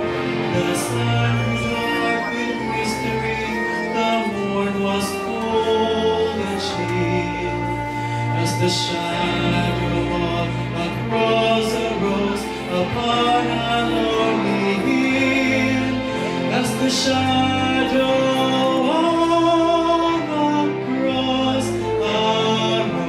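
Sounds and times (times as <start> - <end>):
choir singing a hymn: 0.0 - 23.0
low sustained bass notes: 0.0 - 23.0
man singing into microphone: 0.0 - 23.0.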